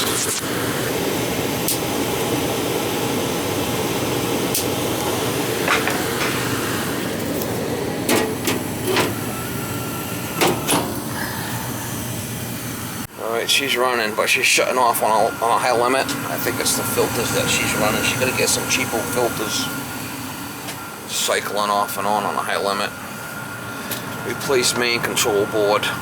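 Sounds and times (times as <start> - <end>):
gas furnace burner and blower: 0.0 - 26.0.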